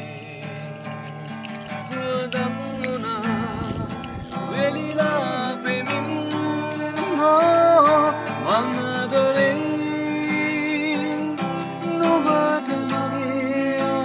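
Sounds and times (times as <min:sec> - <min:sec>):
acoustic guitar: 0:00.0 - 0:14.0
man singing: 0:00.0 - 0:14.0.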